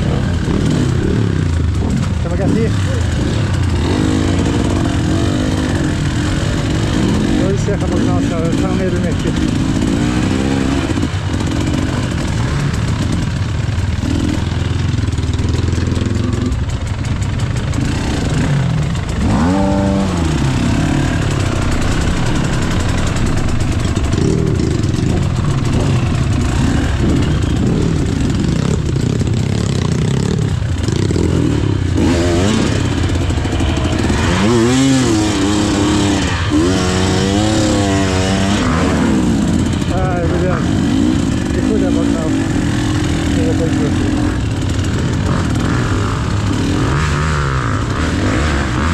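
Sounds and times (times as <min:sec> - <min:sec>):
two-stroke motorbike engine revving: 0:00.0 - 0:48.9.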